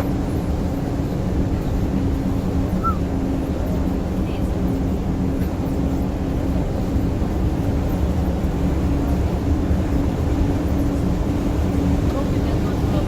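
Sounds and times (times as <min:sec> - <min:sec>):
coach engine hum: 0:00.0 - 0:13.0
low road rumble: 0:00.0 - 0:13.0.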